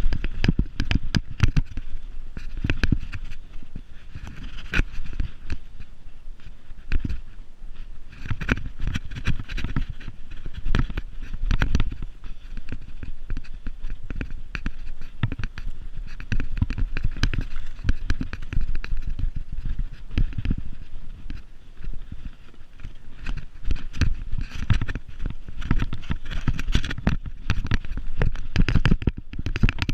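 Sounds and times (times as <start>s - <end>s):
wind rumble on microphone: 0.0s - 29.9s.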